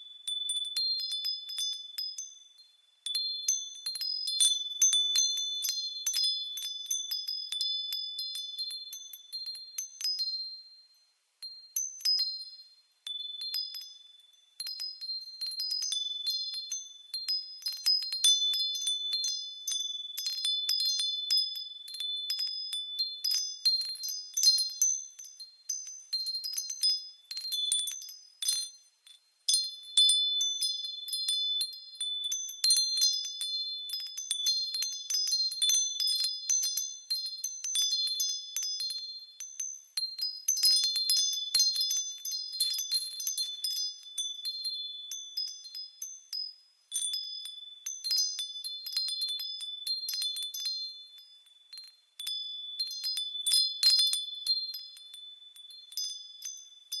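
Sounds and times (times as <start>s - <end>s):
wind chimes ringing: 0.0s - 57.0s.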